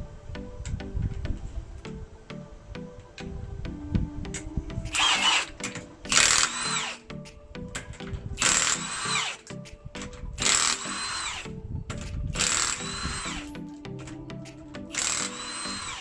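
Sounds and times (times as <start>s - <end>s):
background music held notes: 0.0s - 16.0s.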